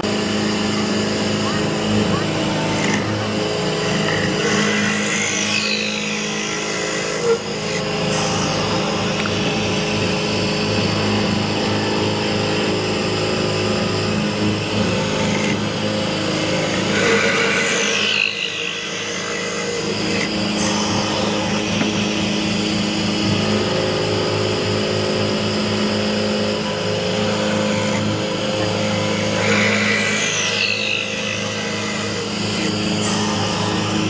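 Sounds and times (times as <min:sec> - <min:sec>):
high tone sliding downward: 0:00.0 - 0:29.9
machine motor humming: 0:00.0 - 0:34.0.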